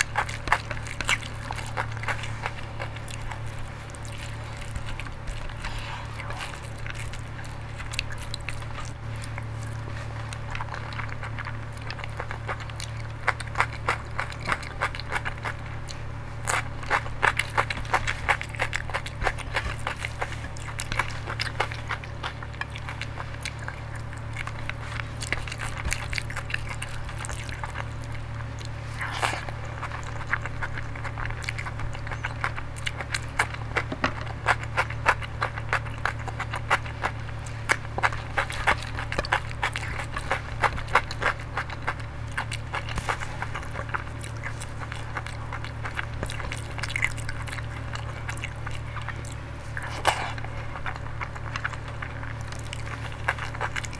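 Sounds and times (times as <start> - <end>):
low hum: 0.0 - 53.9
wet chewing and mouth clicks: 0.0 - 53.9.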